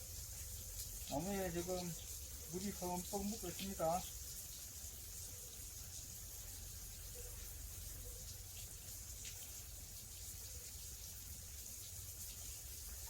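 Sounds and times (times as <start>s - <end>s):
water spraying from hose: 0.0s - 13.0s.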